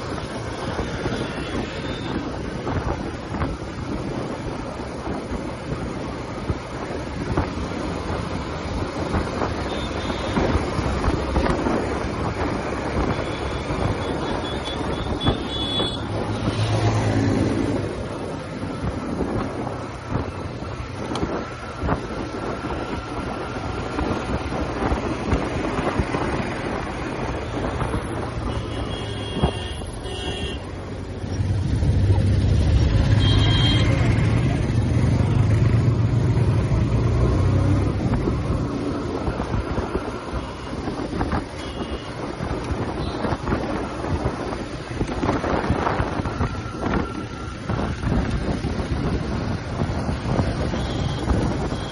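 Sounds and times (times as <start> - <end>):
wind buffeting microphone: 0.0 - 29.8, 33.8 - 51.9
motorcycle engine and exhaust: 0.0 - 51.9.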